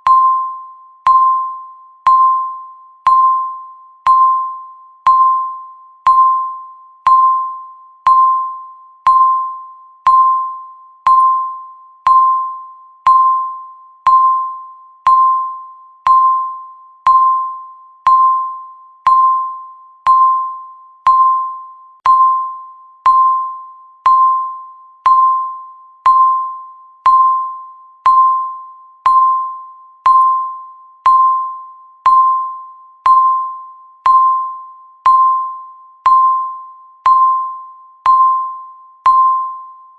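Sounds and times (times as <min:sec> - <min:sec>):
timer chime-like ticks: 0:00.0 - 0:39.9.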